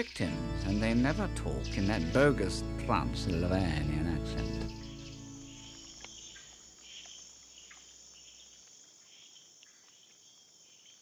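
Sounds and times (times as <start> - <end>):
insect chirps: 0.0 - 11.0
insects trilling: 0.0 - 11.0.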